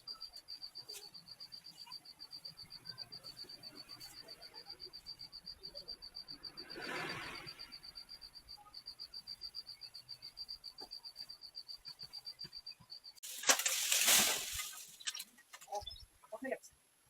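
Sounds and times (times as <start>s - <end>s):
insect chirping trill: 0.0s - 16.1s.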